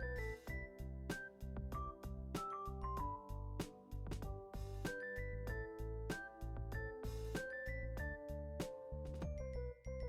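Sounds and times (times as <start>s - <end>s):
bouncy music with bell melody: 0.0s - 10.0s.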